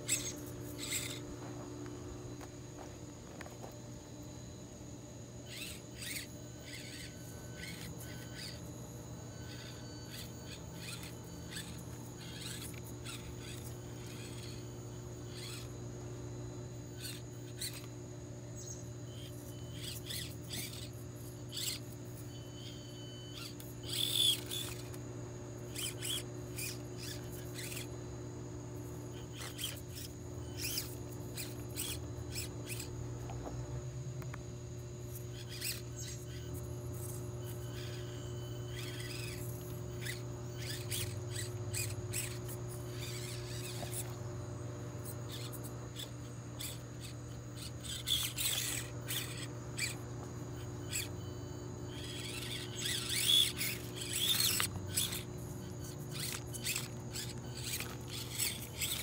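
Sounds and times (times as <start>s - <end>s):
small electric motor whining: 0.0s - 59.0s
steady low hum: 0.0s - 59.0s.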